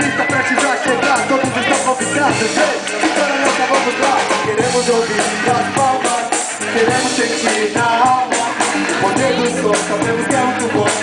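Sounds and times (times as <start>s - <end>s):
drum kit: 0.0s - 11.0s
guitar: 0.0s - 11.0s
person singing into a microphone: 0.0s - 11.0s.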